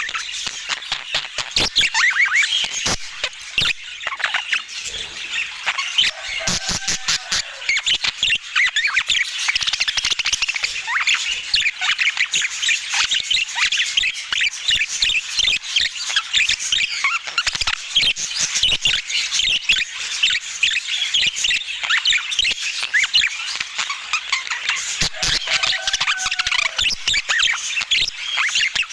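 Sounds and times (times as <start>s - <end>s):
budgerigars chattering: 0.0s - 28.9s.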